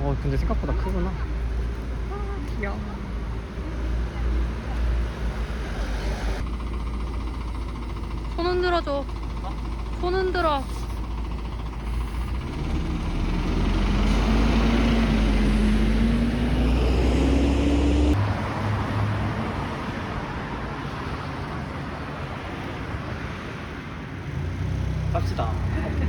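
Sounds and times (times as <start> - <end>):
passing vehicle engine: 0.0 - 7.6, 10.2 - 26.0.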